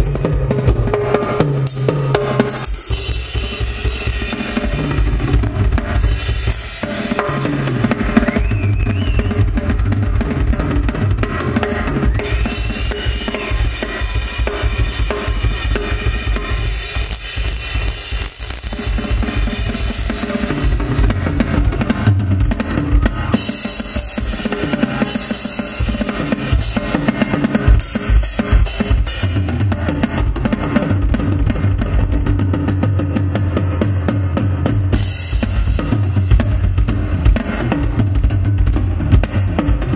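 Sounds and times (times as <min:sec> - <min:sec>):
drum kit solo: 0:00.0 - 0:39.9.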